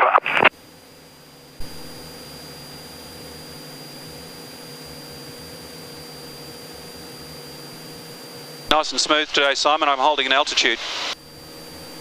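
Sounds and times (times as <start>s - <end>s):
airplane engine and propeller drone: 0.4s - 12.0s.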